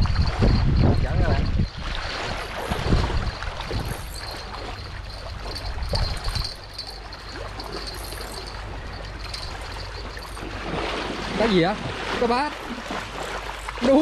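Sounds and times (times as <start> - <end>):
light water splashes: 0.0 - 14.0
river water trickling: 0.0 - 14.0.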